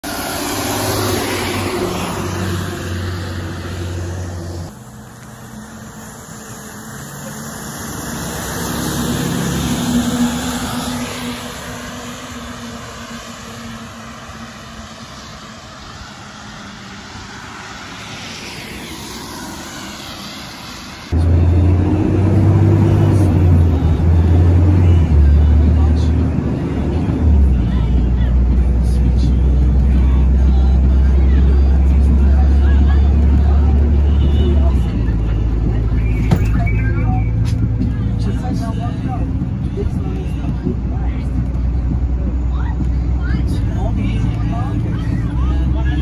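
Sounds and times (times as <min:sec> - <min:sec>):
bus engine droning: 0:00.0 - 0:46.0.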